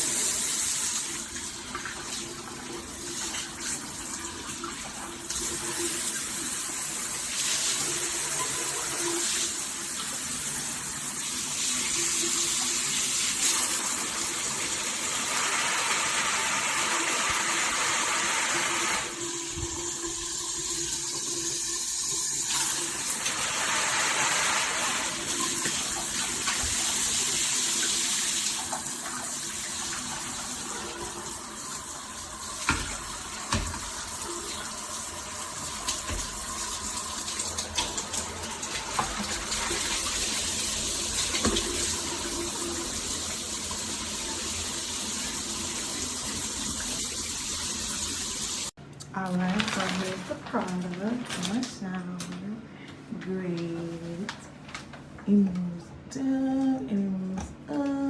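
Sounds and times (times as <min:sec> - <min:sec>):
shower water spraying: 0:00.0 - 0:48.8.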